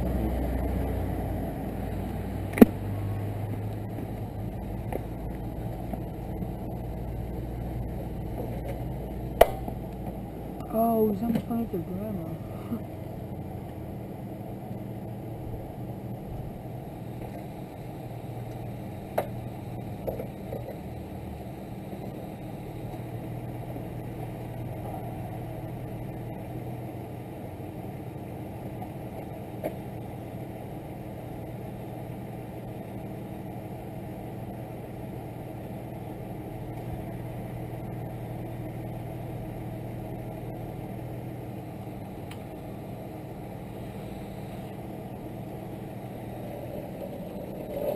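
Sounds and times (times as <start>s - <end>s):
vehicle engine idling: 0.0s - 47.9s.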